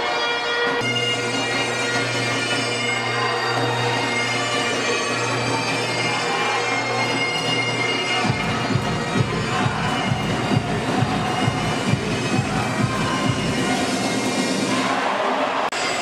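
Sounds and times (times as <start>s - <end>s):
sustained background music: 0.0s - 14.7s.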